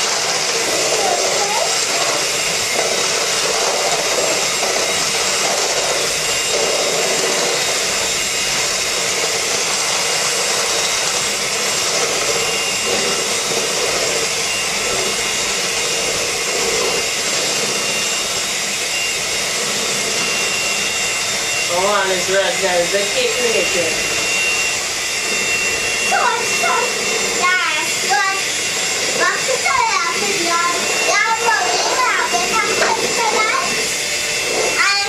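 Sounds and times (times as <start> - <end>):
electric hand mixer whirring: 0.0 - 35.0.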